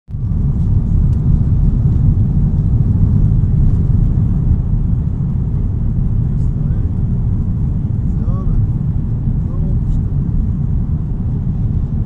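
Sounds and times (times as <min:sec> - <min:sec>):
airliner cabin low rumble: 0:00.1 - 0:12.0.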